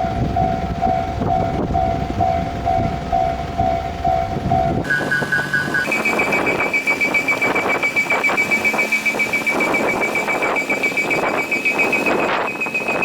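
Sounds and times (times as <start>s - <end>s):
level crossing warning bell: 0.0s - 13.0s
train running past: 0.0s - 13.0s.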